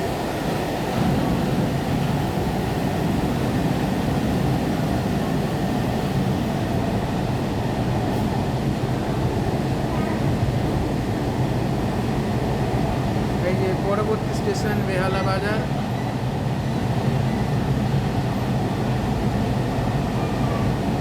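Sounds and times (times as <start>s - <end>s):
metro train carriage rumble: 0.0s - 21.0s.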